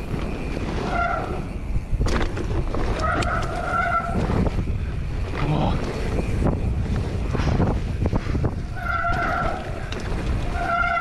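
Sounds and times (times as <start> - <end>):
disc brakes squealing: 0.0 - 5.2, 5.9 - 11.0
bike rattling over bumps: 0.0 - 11.0
bike tyre rumble: 0.0 - 11.0
wind: 0.0 - 11.0.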